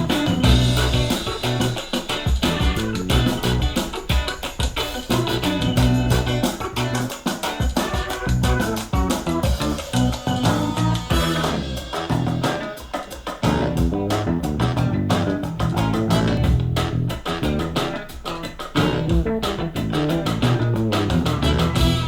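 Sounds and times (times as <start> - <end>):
rock music through a loudspeaker: 0.0 - 22.0.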